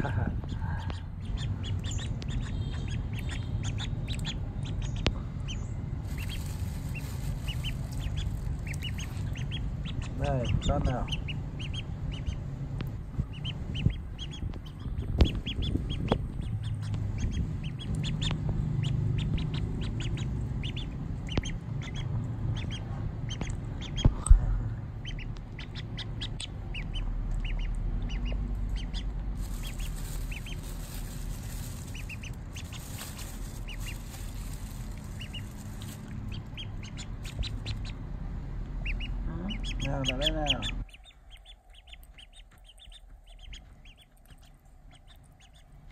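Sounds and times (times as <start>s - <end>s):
duckling peeping: 0.0s - 12.4s, 13.1s - 24.4s, 25.0s - 38.1s, 38.7s - 45.9s.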